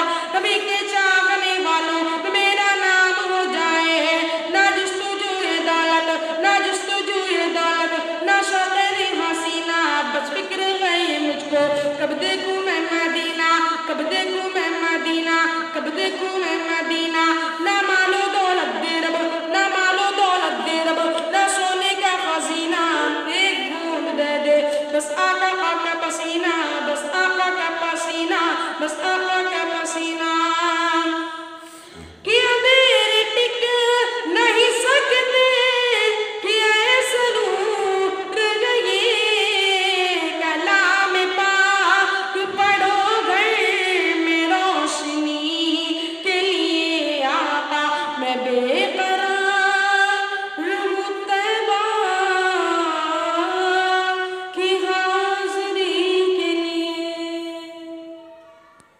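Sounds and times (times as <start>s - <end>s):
boy singing into a microphone: 0.0s - 58.9s.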